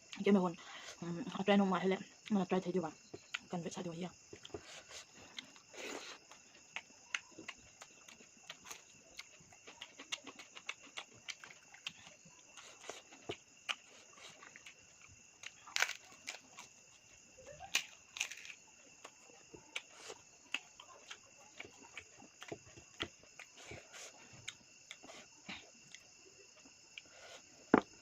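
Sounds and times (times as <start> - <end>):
wet chewing and smacking: 3.0 - 3.5, 4.2 - 28.0.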